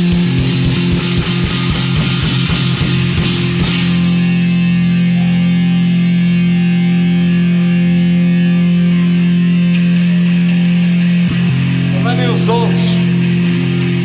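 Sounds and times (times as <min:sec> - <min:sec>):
distorted electric guitar and bass chord: 0:00.0 - 0:14.0.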